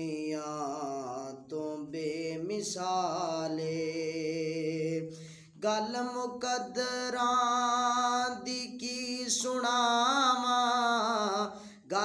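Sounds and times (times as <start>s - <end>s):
man singing long held notes: 0.0s - 12.0s.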